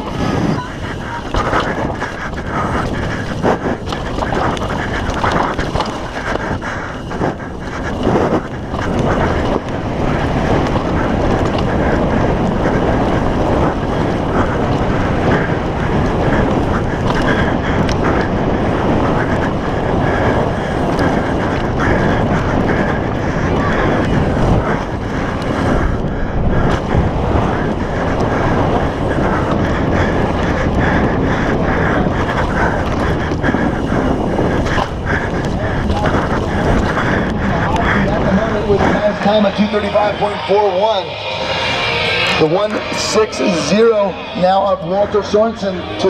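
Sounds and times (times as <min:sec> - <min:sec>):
bike clattering over rough ground: 0:00.0 - 0:39.7
bike tyres rolling on dirt: 0:00.0 - 0:41.2, 0:42.3 - 0:46.0
wind on microphone: 0:00.0 - 0:46.0.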